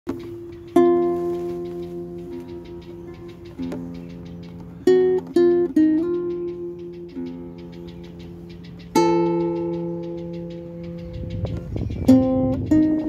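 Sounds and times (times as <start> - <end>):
acoustic guitar strumming: 0.1 - 13.0.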